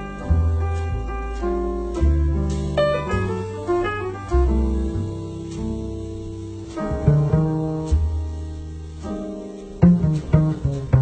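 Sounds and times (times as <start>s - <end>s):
jazz piano trio ballad: 0.0s - 11.0s
plucked double bass: 0.0s - 11.0s.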